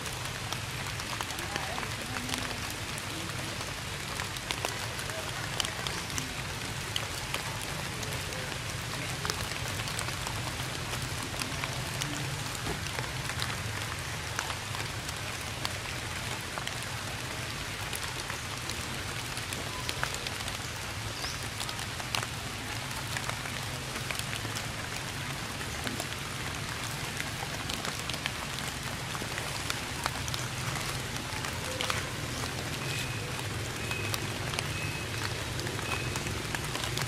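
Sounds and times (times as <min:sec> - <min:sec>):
rain falling on foliage: 0:00.0 - 0:37.0.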